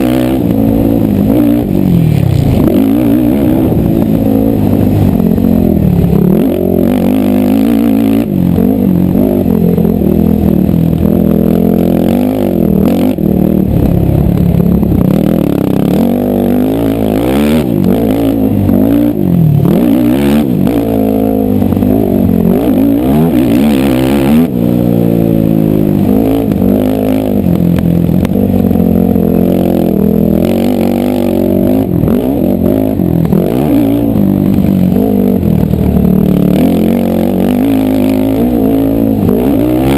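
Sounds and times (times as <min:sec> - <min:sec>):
racing atv engine revving: 0:00.0 - 0:39.9.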